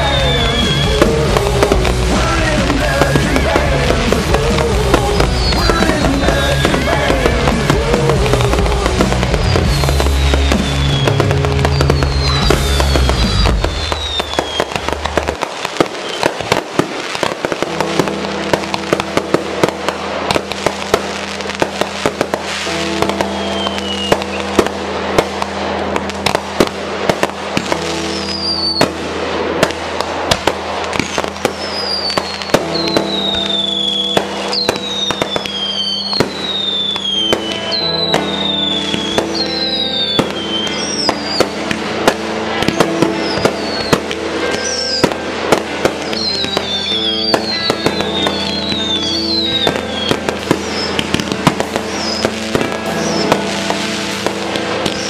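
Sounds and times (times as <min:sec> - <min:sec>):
falling firework whistles: 0:00.0 - 0:55.0
fireworks bangs and crackling: 0:00.0 - 0:55.0
music with sustained chords: 0:00.0 - 0:55.0.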